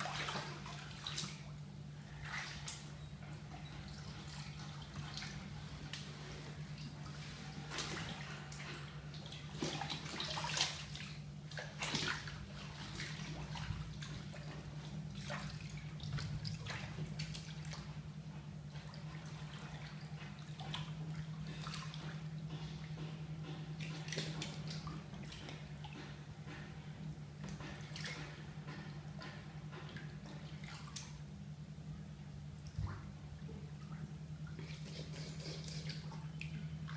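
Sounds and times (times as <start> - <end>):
bathwater sloshing and splashing: 0.0 - 36.9
low steady hum: 0.0 - 36.9.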